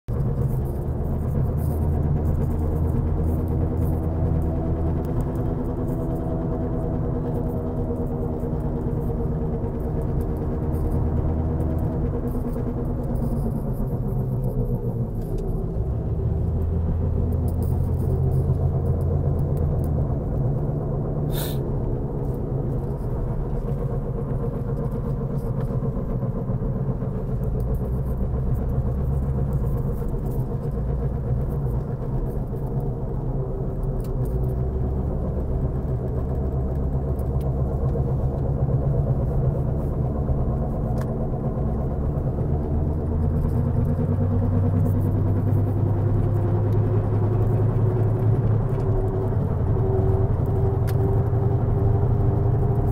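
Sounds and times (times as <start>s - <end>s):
car interior engine rumble: 0.1s - 52.9s
throbbing helicopter-like noise: 0.1s - 52.9s.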